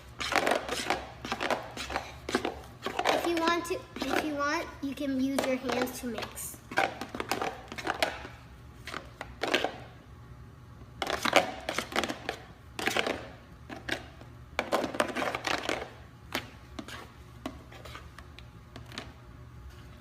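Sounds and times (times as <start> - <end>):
slime being mixed in a bowl: 0.0 - 9.9, 11.0 - 20.0.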